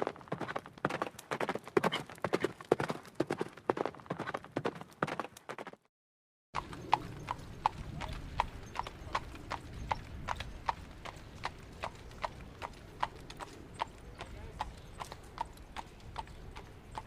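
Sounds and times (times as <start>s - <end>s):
horse hooves clip-clopping: 0.0s - 5.8s, 6.6s - 17.0s.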